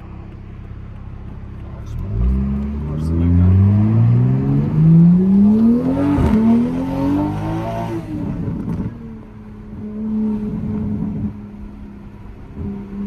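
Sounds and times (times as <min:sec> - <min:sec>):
car accelerating with loud exhaust: 0:00.0 - 0:13.0
exhaust crackle: 0:00.0 - 0:13.0.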